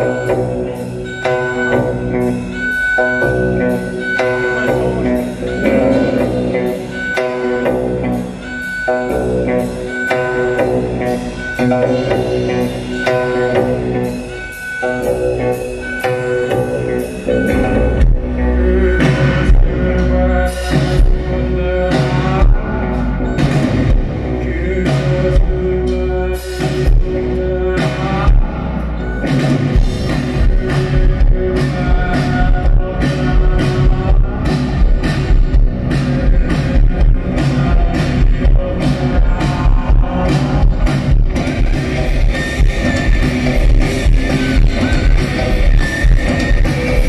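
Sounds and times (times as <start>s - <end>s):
heavy low bass: 0.0s - 47.0s
live post-rock band music: 0.0s - 47.0s.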